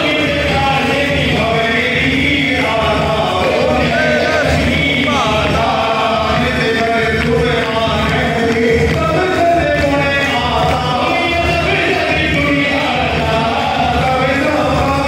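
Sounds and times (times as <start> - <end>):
instrumental accompaniment: 0.0 - 15.0
voices chanting together: 0.0 - 15.0.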